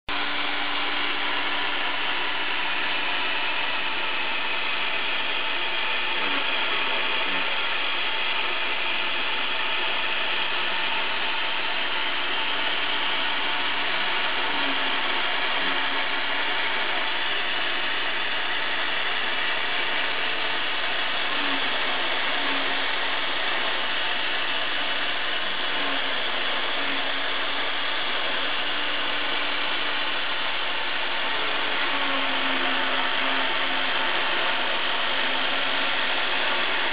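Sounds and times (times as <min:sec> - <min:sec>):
router spindle machining: 0:00.1 - 0:36.9
short low motor tones: 0:00.1 - 0:36.9.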